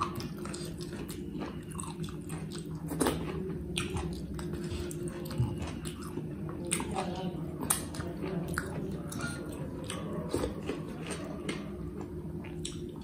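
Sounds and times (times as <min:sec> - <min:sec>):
chewing and lip smacks: 0:00.0 - 0:13.0
steady low hum: 0:00.0 - 0:13.0.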